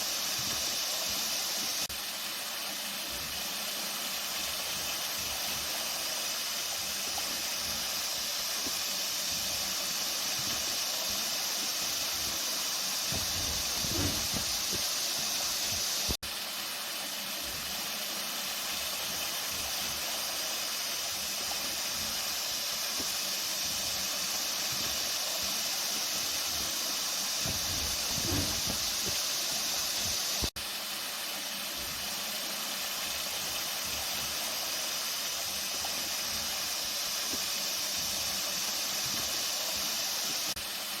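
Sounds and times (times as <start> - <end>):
water rushing: 0.0 - 41.0.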